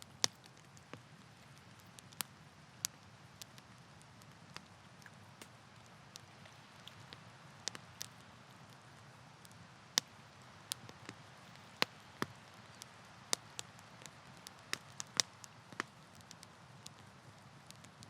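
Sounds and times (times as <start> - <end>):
campfire crackling and popping: 0.0 - 18.0
soft steady hiss: 0.0 - 18.0.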